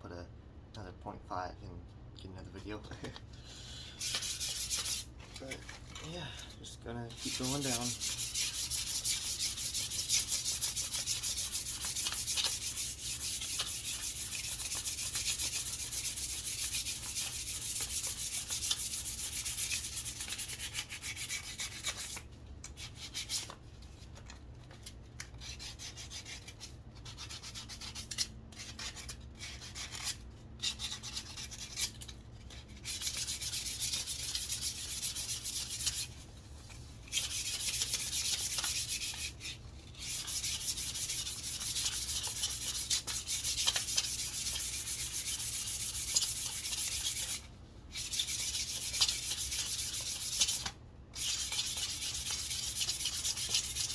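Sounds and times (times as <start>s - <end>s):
sandpaper rubbing on wood: 4.0s - 5.5s, 7.1s - 23.6s, 25.4s - 32.0s, 32.7s - 36.2s, 37.1s - 53.9s.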